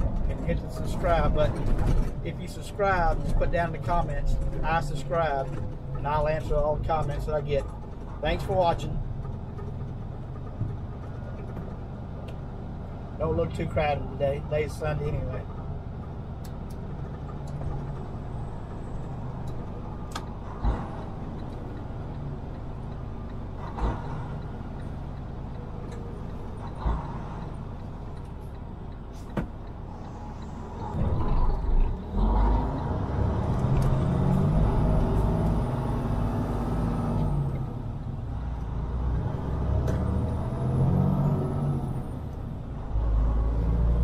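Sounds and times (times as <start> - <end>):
truck diesel engine running: 0.0 - 41.2.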